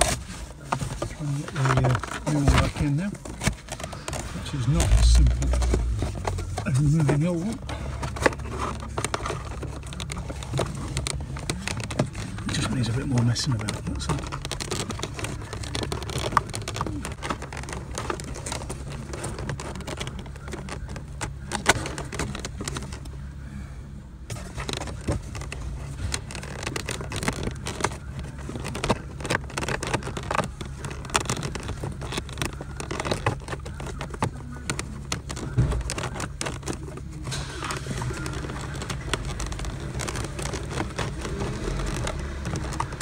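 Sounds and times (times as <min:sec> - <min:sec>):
paper filter scraping and clicking: 0:00.0 - 0:23.3, 0:24.3 - 0:43.0.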